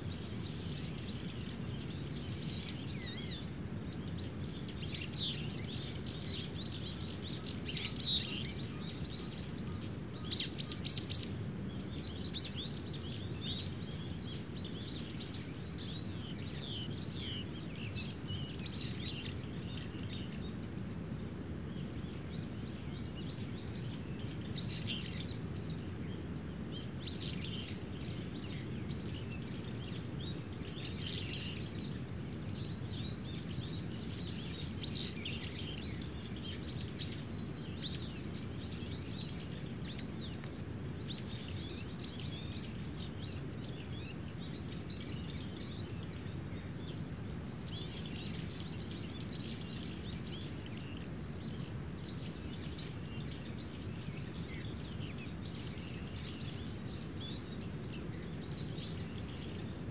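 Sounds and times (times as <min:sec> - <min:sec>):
low background noise: 0:00.0 - 0:59.9
small birds chirping: 0:00.0 - 0:59.9.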